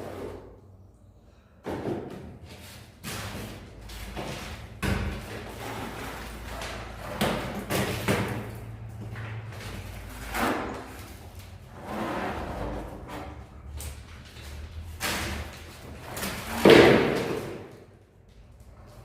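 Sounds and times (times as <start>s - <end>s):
plastering tools knocking and scraping: 1.6s - 17.9s.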